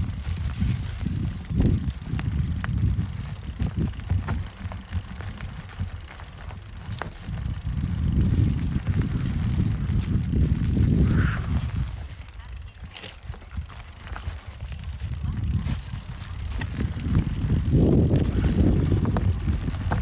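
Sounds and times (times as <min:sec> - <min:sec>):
bike clicks and rattles: 0:00.0 - 0:20.0
bike tyre noise: 0:00.0 - 0:20.0
wind rumbling on microphone: 0:00.0 - 0:20.0.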